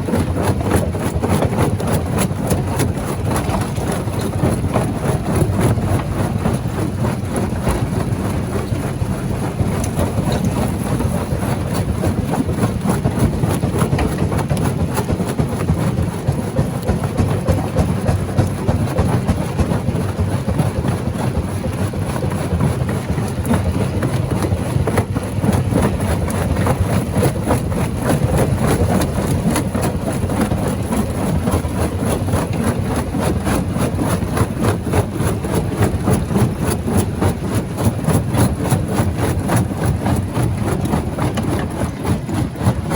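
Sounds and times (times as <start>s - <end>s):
rock crusher rumbling: 0.0s - 42.9s.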